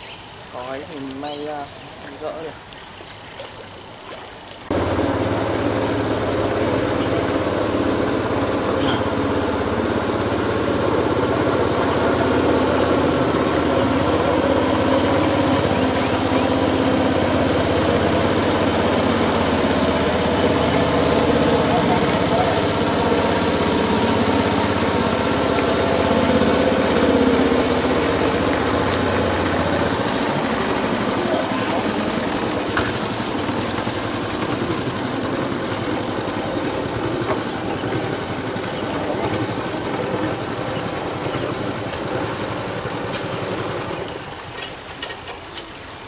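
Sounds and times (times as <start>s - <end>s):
high-pitched insect buzz: 0.0s - 43.3s
boat engine drone: 4.6s - 45.8s.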